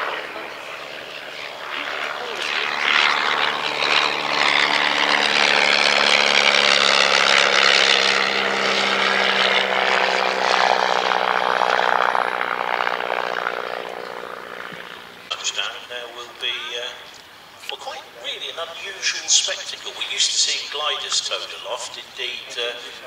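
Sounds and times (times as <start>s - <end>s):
propeller plane engine drone: 0.0s - 23.0s.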